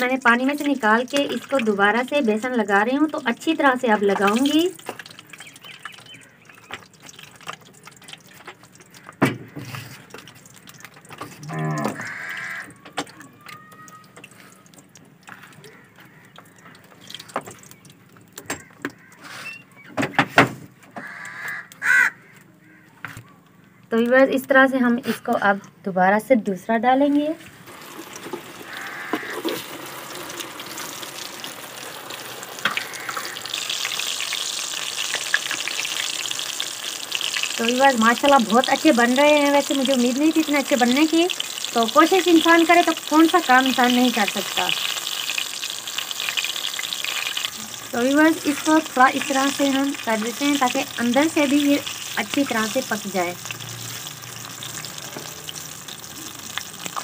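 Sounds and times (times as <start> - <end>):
chicken deep-frying in oil: 0.0 - 22.2, 27.2 - 57.0.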